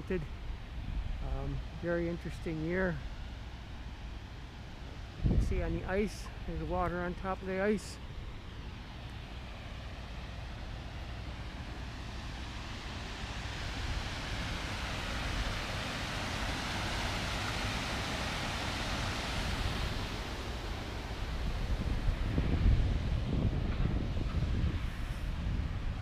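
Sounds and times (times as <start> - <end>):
water rushing and churning: 0.0 - 26.0.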